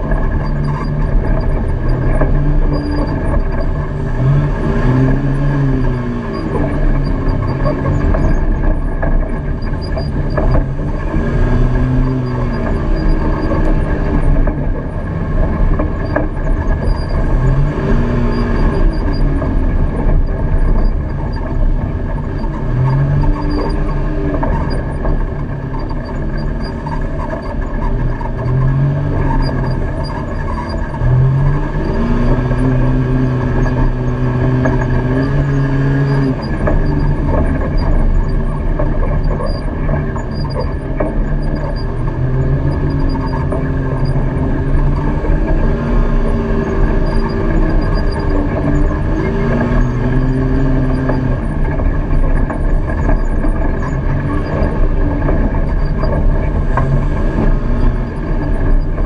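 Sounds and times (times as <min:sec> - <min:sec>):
rattle and rumble on dirt trail: 0:00.0 - 0:59.0
utility vehicle engine revving: 0:00.0 - 0:59.0.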